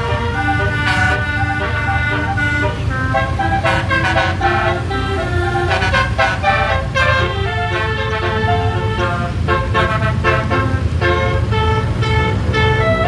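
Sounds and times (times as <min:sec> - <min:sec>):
tuned air horns playing a tune: 0:00.0 - 0:13.0.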